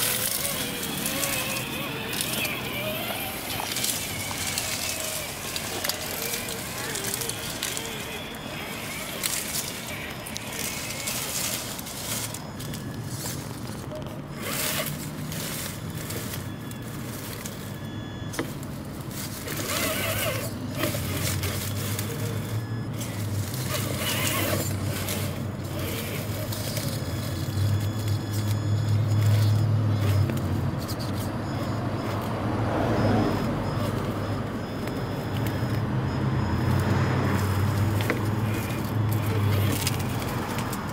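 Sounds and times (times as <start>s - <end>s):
toy car motor whirring: 0.0s - 40.9s.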